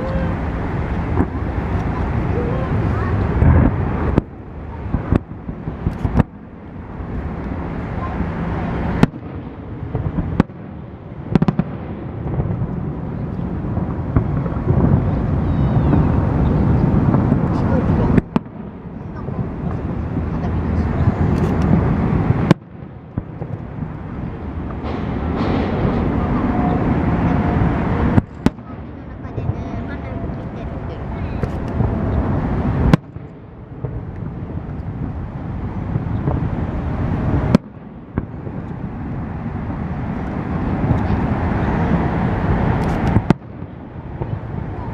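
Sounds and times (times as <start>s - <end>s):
fireworks bangs: 0.0s - 44.9s
fireworks crackling: 0.0s - 44.9s
low rumble: 0.0s - 44.9s.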